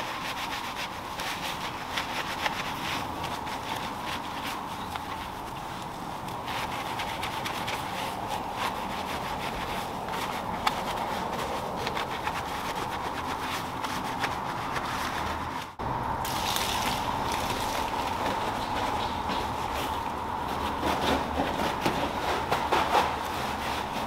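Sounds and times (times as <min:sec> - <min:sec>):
wet mitt scrubbing a wheel: 0:00.0 - 0:24.0
steady hum: 0:00.9 - 0:24.0.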